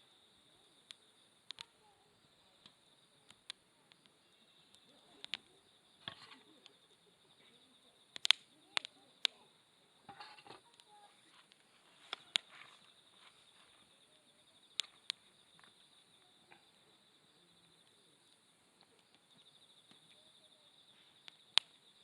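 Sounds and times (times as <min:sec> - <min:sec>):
campfire crackling and popping: 0:00.0 - 0:22.0
insect chirring: 0:00.0 - 0:22.0.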